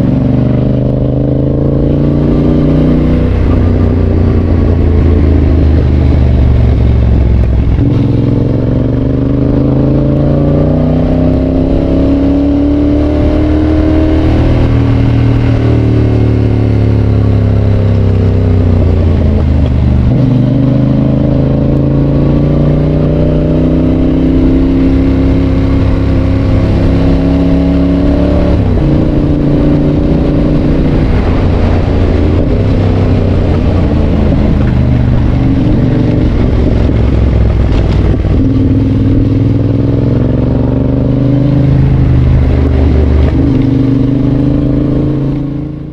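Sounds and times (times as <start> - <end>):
motorcycle engine shifting gears: 0.0 - 45.9.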